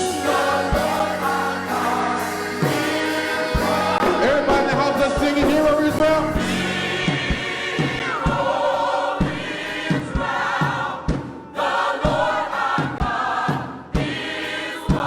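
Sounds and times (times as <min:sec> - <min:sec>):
choir singing with band: 0:00.0 - 0:15.0
drum beat: 0:00.0 - 0:15.0.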